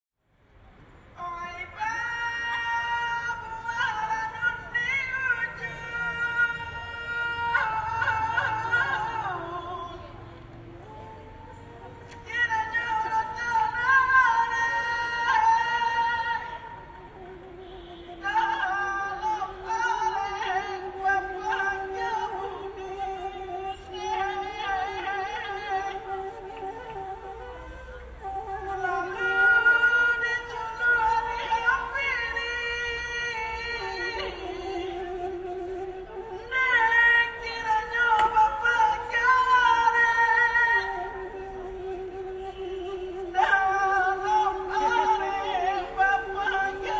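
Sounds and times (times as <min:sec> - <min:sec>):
high voice singing held notes: 0:05.5 - 0:46.9.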